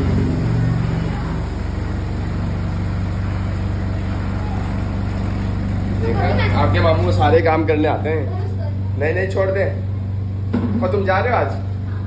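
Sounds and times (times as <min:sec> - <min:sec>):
spin dryer motor humming: 0:00.0 - 0:12.0.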